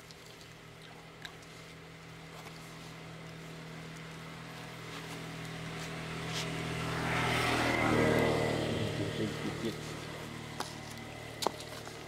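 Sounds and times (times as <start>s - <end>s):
vehicle engine approaching: 2.0s - 12.0s.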